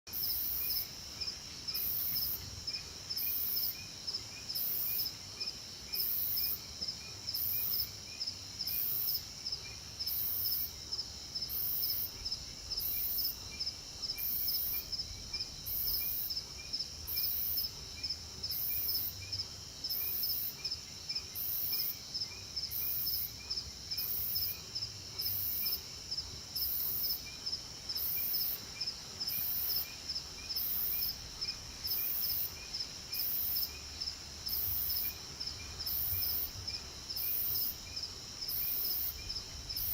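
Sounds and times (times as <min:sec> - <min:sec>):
faint insect chirps: 0:00.1 - 0:39.9.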